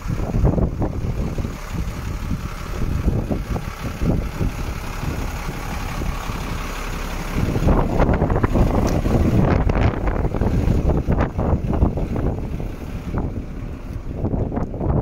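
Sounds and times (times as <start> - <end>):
truck diesel engine idling: 0.0 - 15.0
wind buffeting microphone: 0.0 - 15.0.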